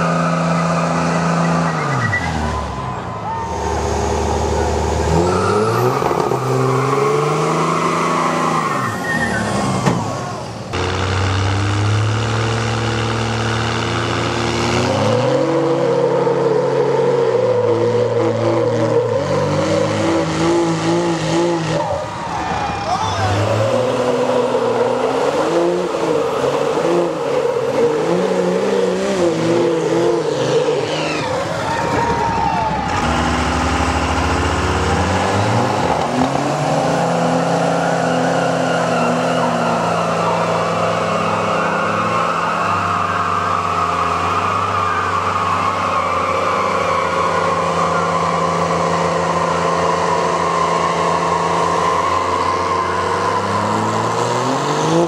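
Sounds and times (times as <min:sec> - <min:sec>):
truck engines at full throttle: 0:00.0 - 0:55.0.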